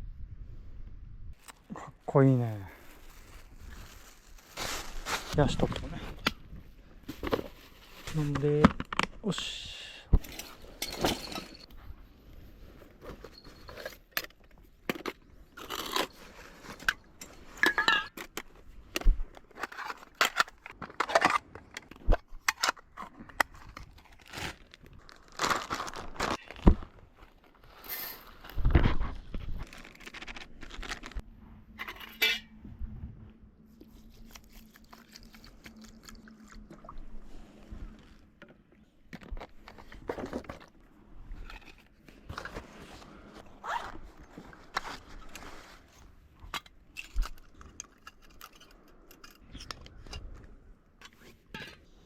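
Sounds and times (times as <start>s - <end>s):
objects being moved and set down: 2.9s - 9.3s, 10.1s - 24.5s, 25.6s - 33.3s, 37.2s - 52.0s.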